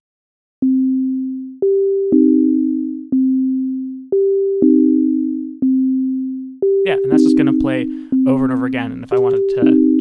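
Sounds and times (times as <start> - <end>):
sine wave synth tones: 0.6 - 10.0.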